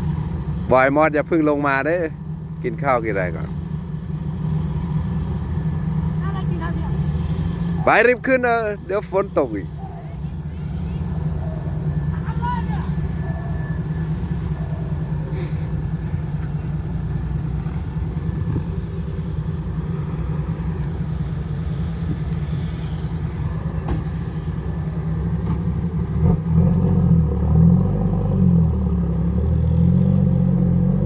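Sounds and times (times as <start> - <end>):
diesel engine running and revving: 0.0 - 31.0.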